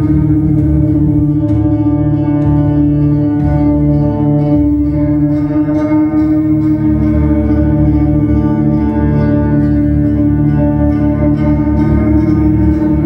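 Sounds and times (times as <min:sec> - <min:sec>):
low throbbing bass: 0:00.0 - 0:13.0
ringing electric guitar drone: 0:00.0 - 0:13.0.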